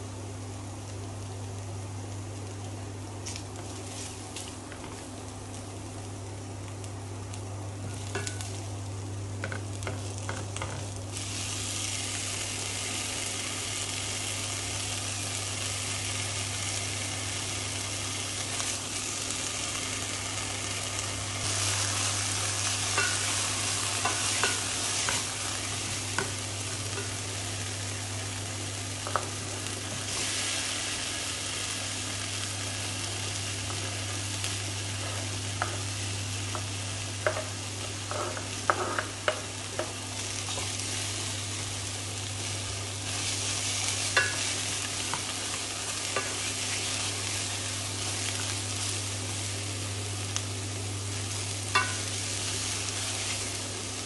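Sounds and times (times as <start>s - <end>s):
food sizzling in a pot: 0.0s - 54.0s
steady low hum: 0.0s - 54.0s.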